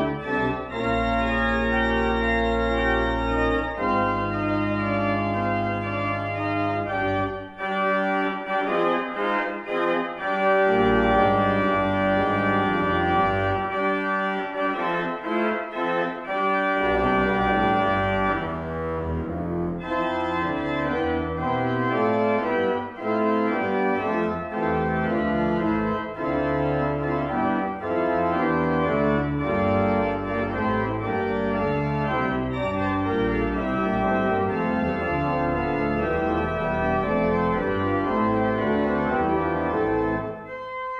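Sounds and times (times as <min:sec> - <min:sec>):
deep organ pedal bass: 0:00.0 - 0:40.9
pipe organ playing chords: 0:00.0 - 0:40.9.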